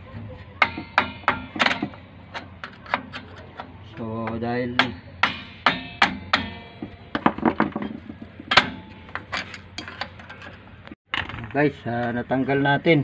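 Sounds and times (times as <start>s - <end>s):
metallic clicks and clanks: 0.6s - 11.6s.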